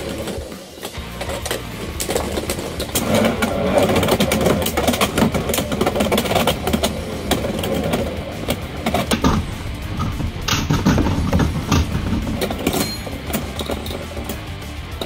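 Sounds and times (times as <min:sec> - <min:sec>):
spinning tops rattling and colliding: 0:00.0 - 0:15.0.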